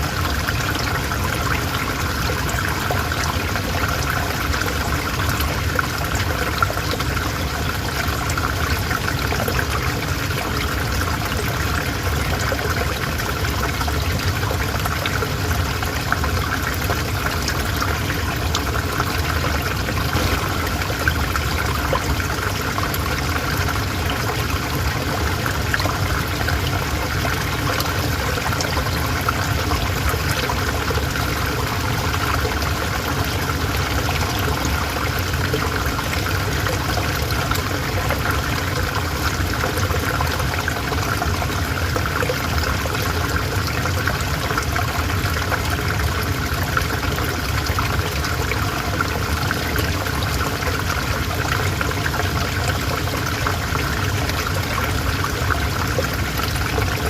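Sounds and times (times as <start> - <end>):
river water rushing over stones: 0.0 - 57.0.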